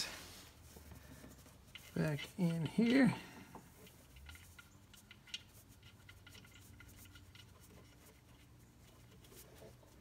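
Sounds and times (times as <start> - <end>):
faint ticks and scrapes: 0.0 - 10.0.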